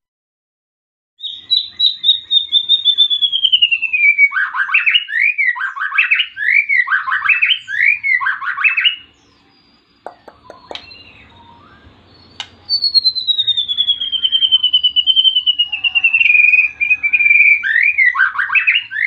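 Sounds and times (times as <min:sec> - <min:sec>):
songbird singing: 0:01.2 - 0:19.0.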